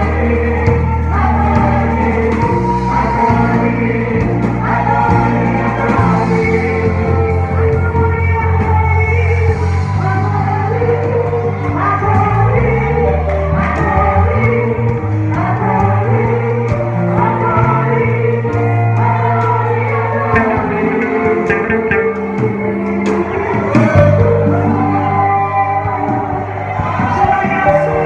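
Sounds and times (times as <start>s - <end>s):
bass and keyboard notes: 0.0s - 28.0s
voices singing together: 0.0s - 28.0s.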